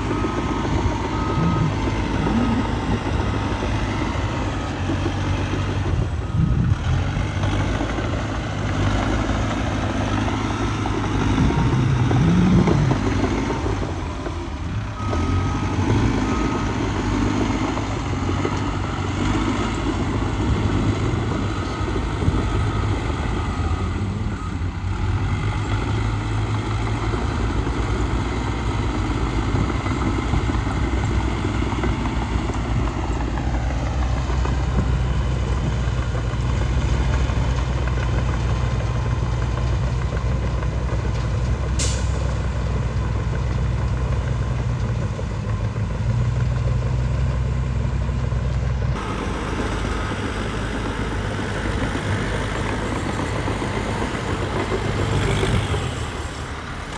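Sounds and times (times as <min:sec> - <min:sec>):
diesel machinery engine rumble: 0:00.0 - 0:56.9.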